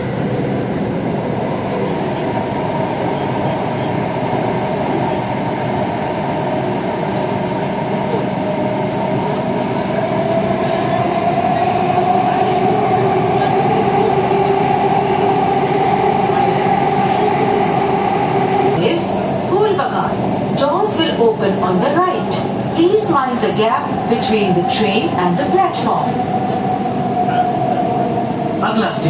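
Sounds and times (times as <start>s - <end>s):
metro train running rumble: 0.0s - 29.0s.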